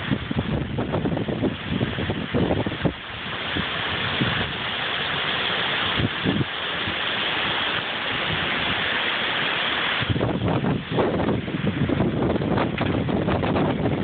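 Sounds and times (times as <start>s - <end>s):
heavy rain pouring: 0.0s - 14.0s
wind gusts buffeting microphone: 0.0s - 14.0s.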